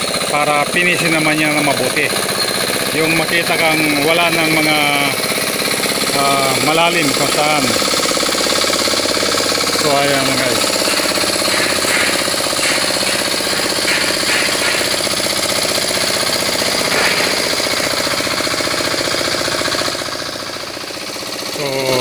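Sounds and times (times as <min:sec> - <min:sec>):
hand tractor engine knocking: 0:00.0 - 0:22.0.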